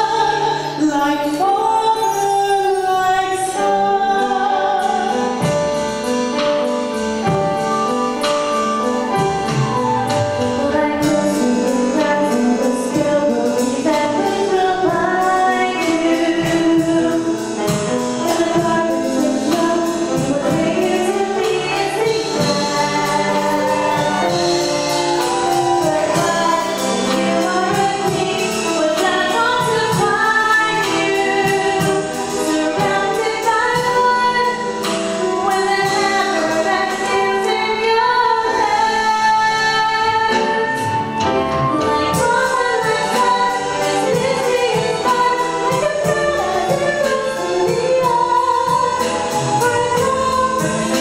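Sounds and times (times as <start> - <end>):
woman singing: 0.0 - 5.7, 10.1 - 51.0
musical accompaniment with steady beat: 0.0 - 51.0.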